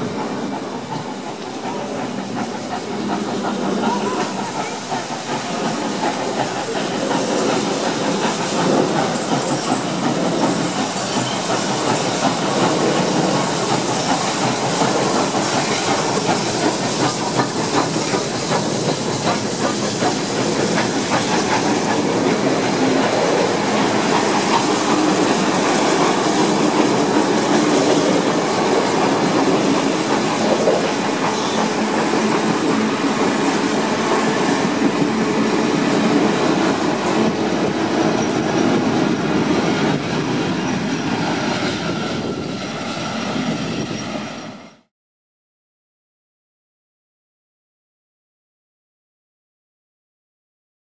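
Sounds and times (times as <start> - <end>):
clickety-clack of train wheels: 0.0 - 44.9
steam locomotive passing: 0.0 - 44.9.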